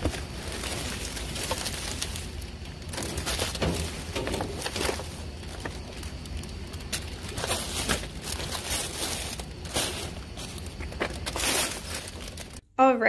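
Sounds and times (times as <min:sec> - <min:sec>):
plastic bags crinkling: 0:00.0 - 0:12.6.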